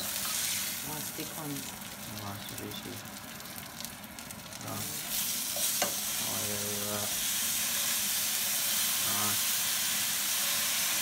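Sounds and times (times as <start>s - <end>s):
fish frying sizzling: 0.0s - 11.0s.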